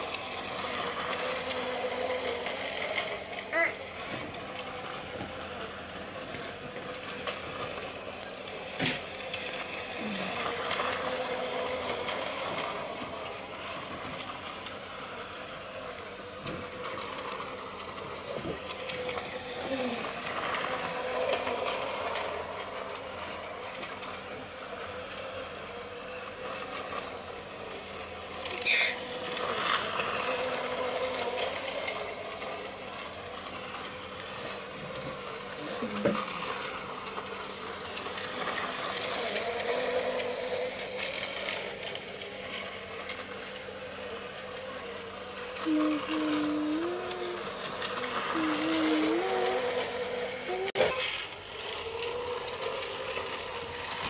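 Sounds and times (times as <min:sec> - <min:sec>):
toy train motor whir: 0:00.0 - 0:54.0
toy train wheels clicking: 0:00.0 - 0:54.0.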